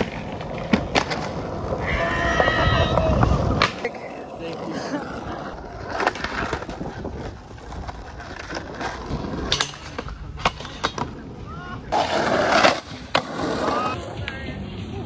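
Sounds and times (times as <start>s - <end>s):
skateboard wheels rolling on asphalt: 0.0s - 15.0s.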